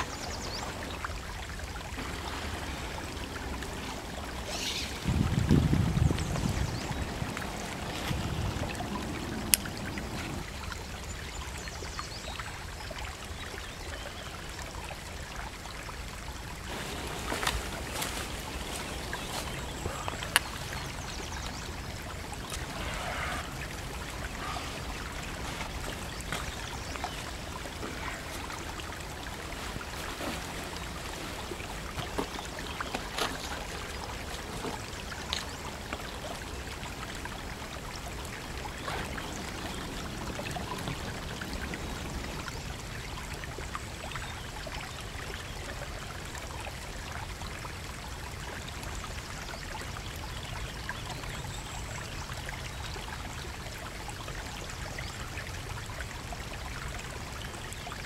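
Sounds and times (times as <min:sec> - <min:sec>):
rushing water noise: 0:00.0 - 0:58.0.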